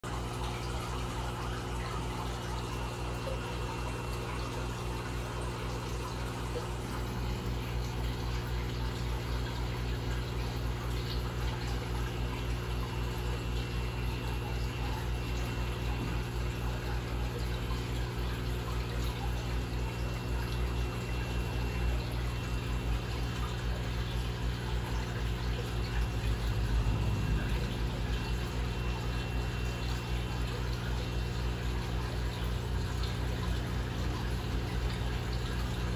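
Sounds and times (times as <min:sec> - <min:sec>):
low pump hum: 0:00.0 - 0:35.9.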